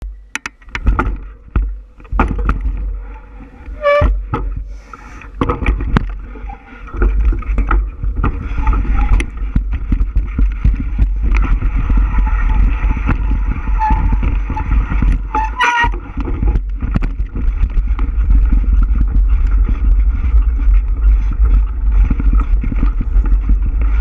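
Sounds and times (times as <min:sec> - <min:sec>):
bicycle rattling on rough trail: 0:00.0 - 0:24.0
wind buffeting microphone: 0:00.7 - 0:24.0.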